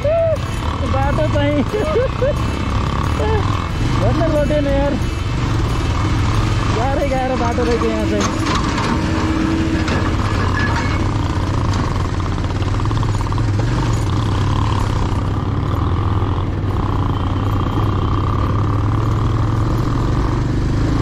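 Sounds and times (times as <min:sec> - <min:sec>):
motorcycle engine running: 0:00.0 - 0:21.0
tyres on gravel track: 0:00.0 - 0:21.0.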